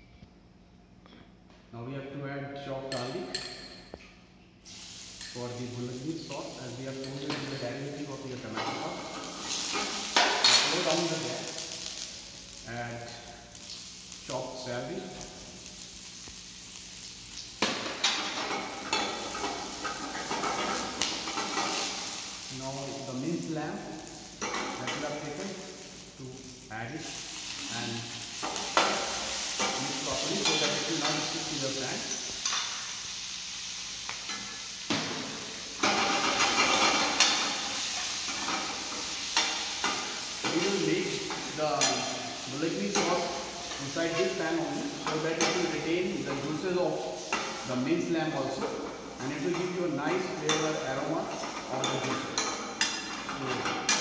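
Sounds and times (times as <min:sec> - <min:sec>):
vegetables sizzling in oil: 0:04.6 - 0:54.0.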